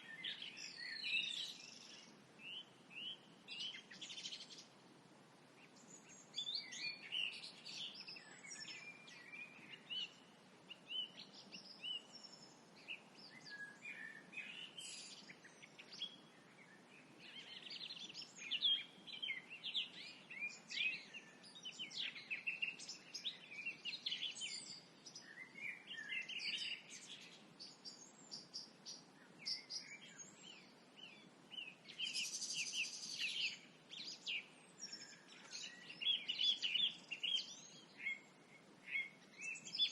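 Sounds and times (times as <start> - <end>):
faint background hiss: 0.0 - 39.9
small birds chirping and singing: 0.0 - 39.9.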